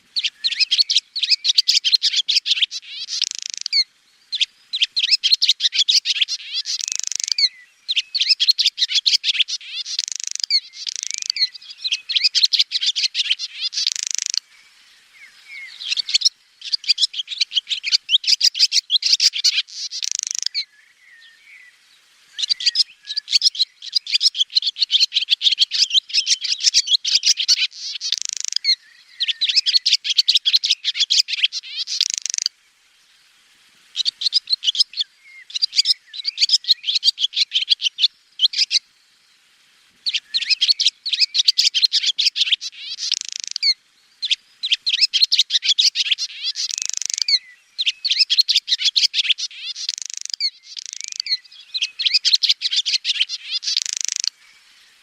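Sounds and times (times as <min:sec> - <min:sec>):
swallow twittering song: 0:00.0 - 0:55.0.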